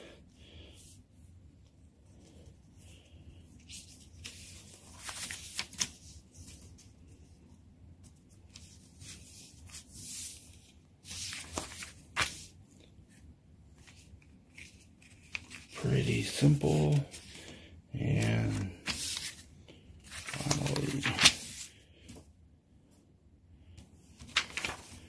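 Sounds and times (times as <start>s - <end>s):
paper pages rustling: 1.6s - 7.4s, 8.0s - 22.3s, 23.8s - 25.0s.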